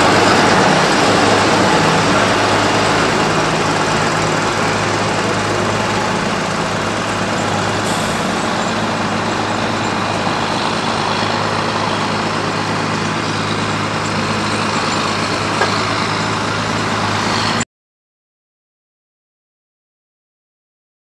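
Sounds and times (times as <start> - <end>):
tractor diesel engine running: 0.0 - 17.6.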